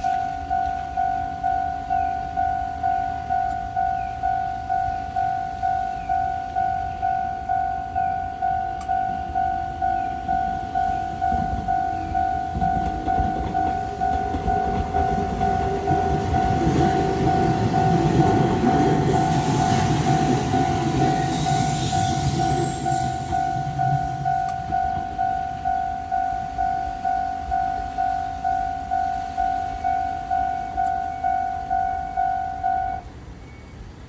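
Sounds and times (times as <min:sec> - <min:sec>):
railroad crossing bell ringing: 0:00.0 - 0:34.0
train rumble and wheel noise: 0:00.0 - 0:34.0.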